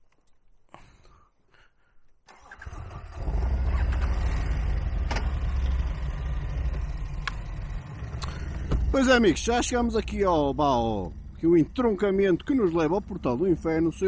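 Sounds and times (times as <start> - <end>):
motorcycle engine: 2.3 - 14.0.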